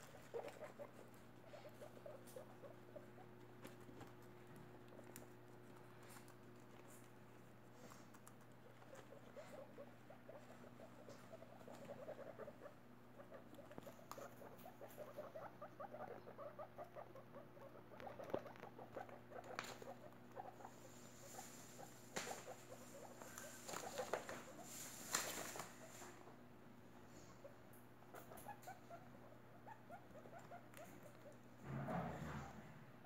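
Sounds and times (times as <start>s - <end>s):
guinea pigs chewing lettuce: 0.0s - 31.7s.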